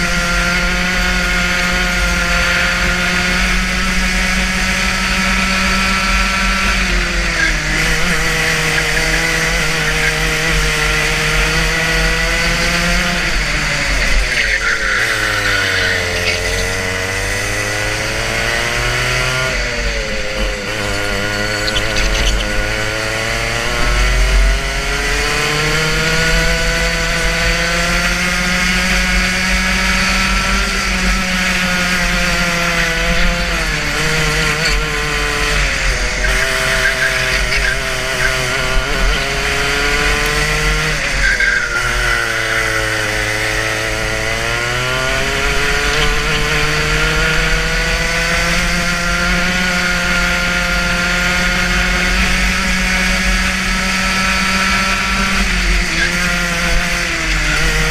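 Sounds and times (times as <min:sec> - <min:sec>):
racing kart engine: 0:00.0 - 0:57.9.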